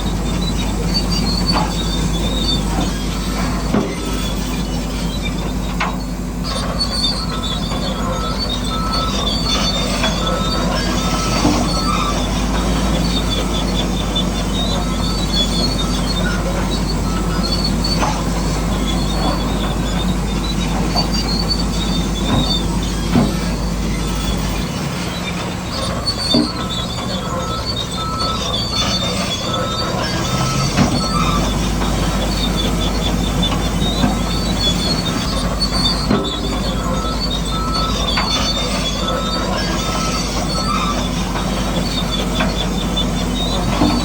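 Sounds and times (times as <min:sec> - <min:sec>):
small electric motors whining: 0:00.0 - 0:44.0.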